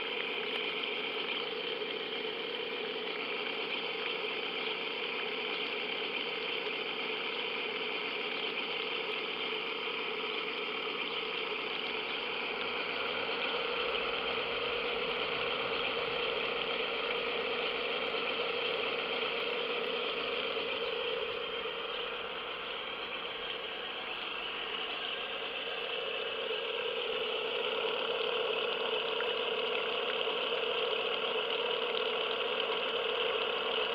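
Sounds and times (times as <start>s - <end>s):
water sputtering from exhaust: 0.0s - 33.9s.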